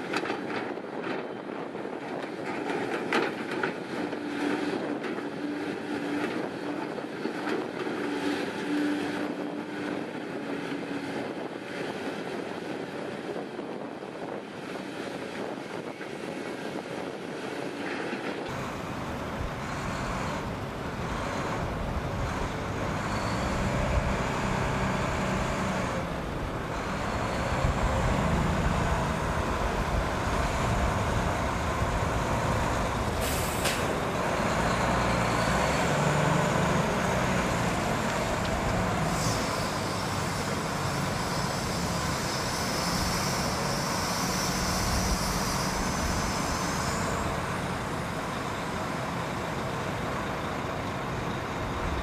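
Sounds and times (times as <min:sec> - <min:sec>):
excavator diesel engine and hydraulics: 0:00.0 - 0:52.0
wheel loader diesel rumble: 0:00.0 - 0:52.0.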